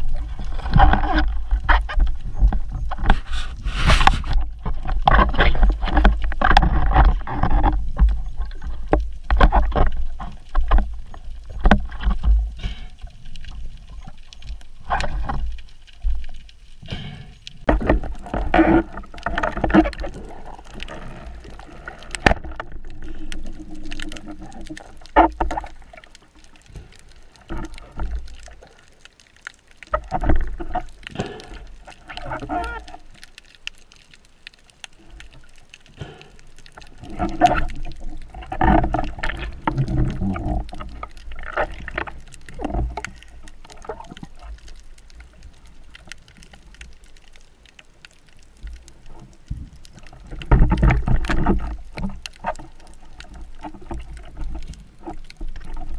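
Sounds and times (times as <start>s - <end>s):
underwater knocks and water rushes: 0.0s - 55.9s.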